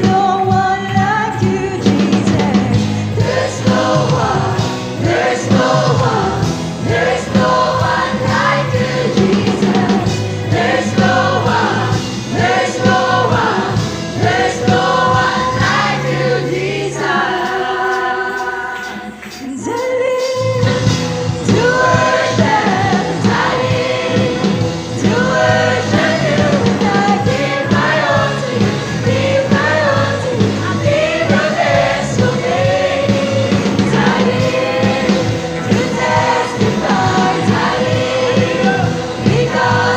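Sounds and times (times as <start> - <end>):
instrumental accompaniment: 0.0 - 39.9
youth choir singing gospel: 0.0 - 39.9.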